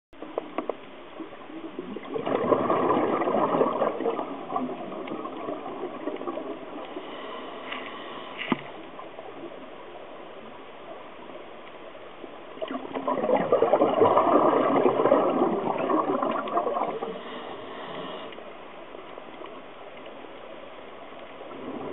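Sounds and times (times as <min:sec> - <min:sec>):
underwater bubbles gurgling: 0:00.2 - 0:11.1, 0:12.2 - 0:20.1, 0:21.0 - 0:21.9.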